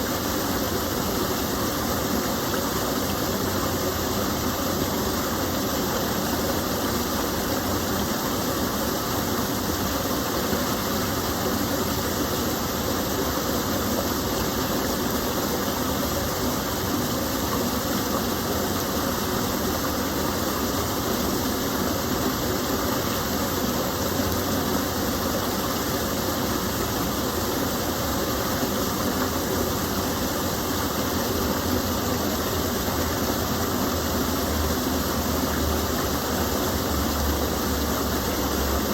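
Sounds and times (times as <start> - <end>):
water pouring over small fall: 0.0 - 38.9.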